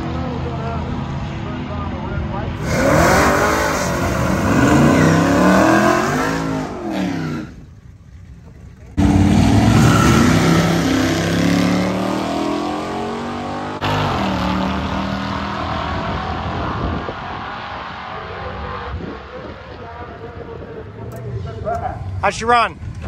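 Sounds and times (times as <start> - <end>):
drag car engine accelerating: 0.0 - 21.6.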